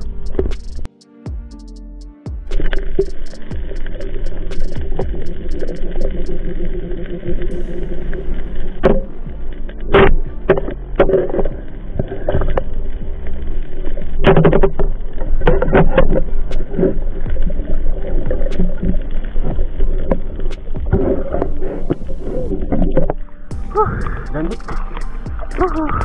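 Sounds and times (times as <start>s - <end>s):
underwater water rushing: 2.5s - 26.0s.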